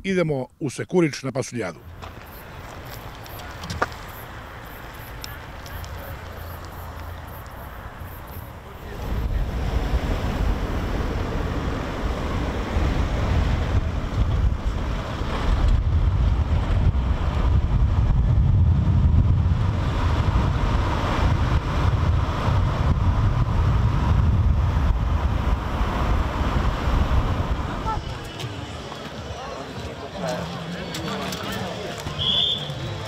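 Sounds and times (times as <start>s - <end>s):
car road rumble: 1.8s - 33.0s.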